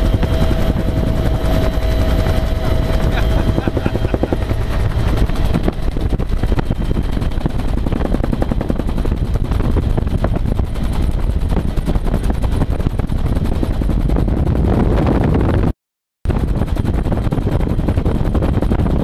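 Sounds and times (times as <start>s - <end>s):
helicopter engine noise: 0.0s - 15.7s, 16.3s - 19.0s
helicopter rotor chopping: 0.0s - 15.7s, 16.3s - 19.0s.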